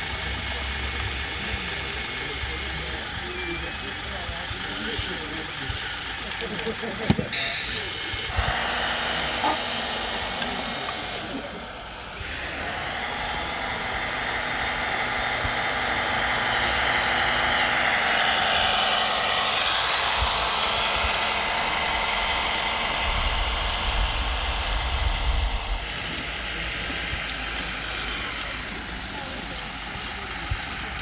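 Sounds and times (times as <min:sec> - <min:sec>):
electric motor and gearbox whining: 0:00.0 - 0:31.0.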